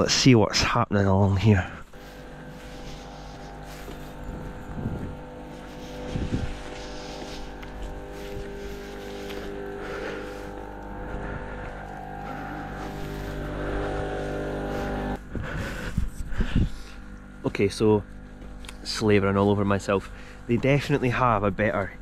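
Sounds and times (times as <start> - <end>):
engine droning hum: 1.3 - 22.0.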